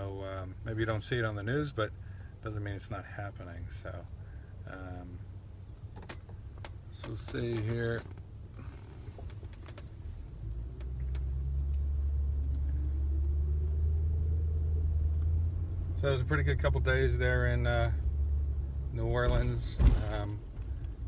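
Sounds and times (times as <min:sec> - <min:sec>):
car engine rumble from inside: 0:00.0 - 0:21.0
road noise: 0:00.0 - 0:21.0.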